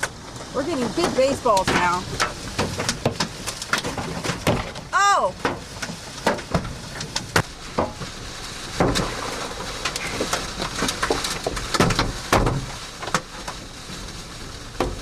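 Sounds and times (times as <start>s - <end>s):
hailstones banging on car roof: 0.0s - 15.0s
hiss of falling hail: 0.0s - 15.0s.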